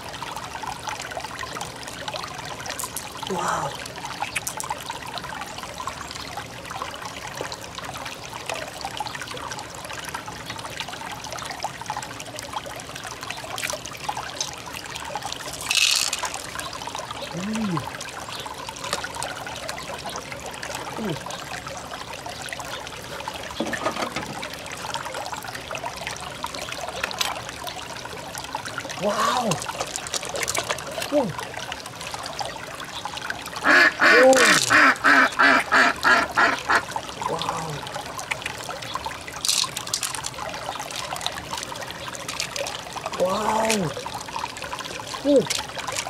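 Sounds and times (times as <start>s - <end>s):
water trickling: 0.0s - 46.0s.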